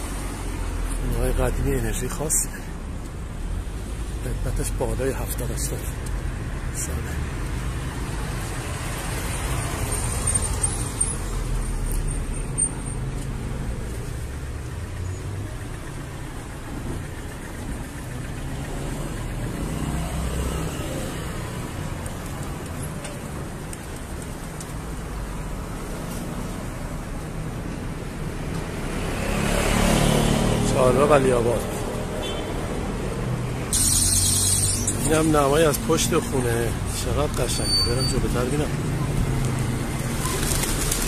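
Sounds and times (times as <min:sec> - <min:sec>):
city street traffic rumble: 0:00.0 - 0:41.0.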